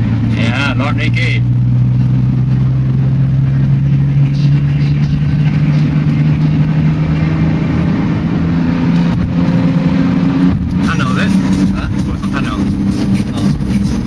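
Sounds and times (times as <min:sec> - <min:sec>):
car engine droning: 0:00.0 - 0:14.0
road noise inside car: 0:00.0 - 0:14.0.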